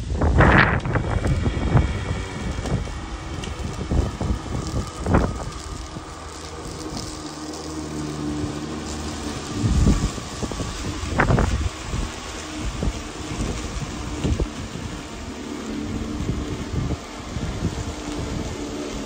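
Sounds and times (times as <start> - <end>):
lawn mower running: 0.0 - 19.0
wind buffeting microphone: 0.0 - 19.0.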